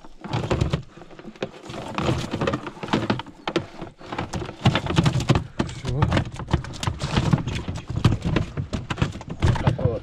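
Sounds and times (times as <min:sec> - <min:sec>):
fish flapping in boat: 0:00.0 - 0:10.0.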